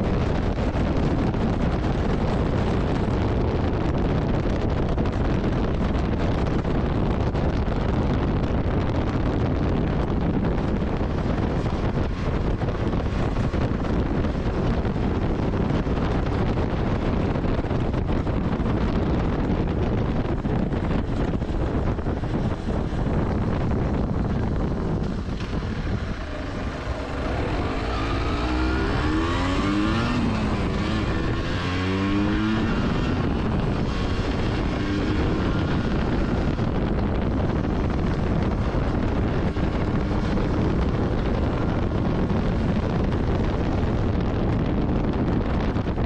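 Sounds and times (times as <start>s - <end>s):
motorcycle engine accelerating: 0.0s - 46.0s
wind rush on microphone: 0.0s - 46.0s.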